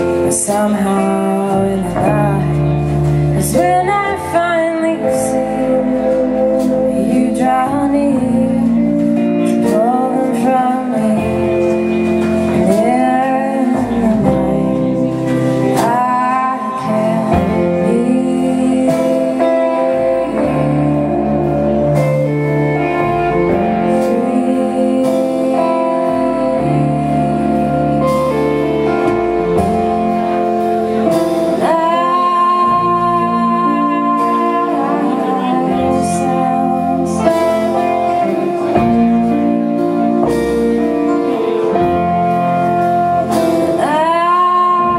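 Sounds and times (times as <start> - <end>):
band playing instrumental: 0.0 - 44.9
sliding lead guitar line: 0.0 - 44.9.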